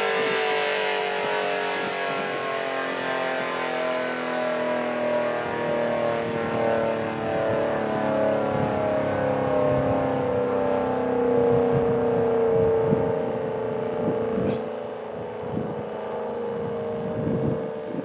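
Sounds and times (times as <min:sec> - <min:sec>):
outdoor warning siren: 0:00.0 - 0:18.0.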